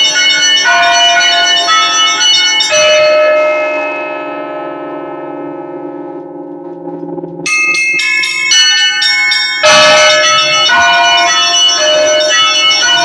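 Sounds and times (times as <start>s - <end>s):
small bells striking: 0.0s - 5.9s, 7.4s - 13.0s
church bells ringing: 0.0s - 13.0s
low hum of big bell: 0.0s - 13.0s.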